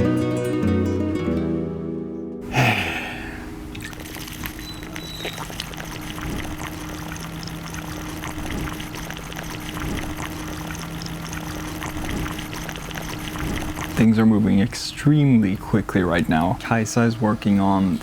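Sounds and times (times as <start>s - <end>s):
crackling hiss: 2.5s - 18.0s.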